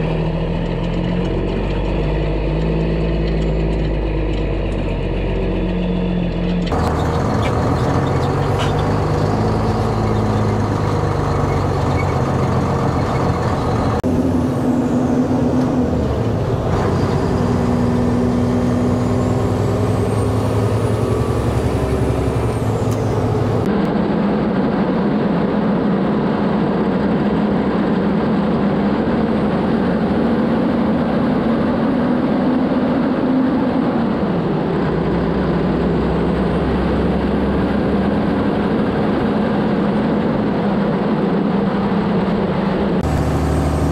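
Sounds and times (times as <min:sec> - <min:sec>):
truck diesel engine under load: 0:00.0 - 0:43.9.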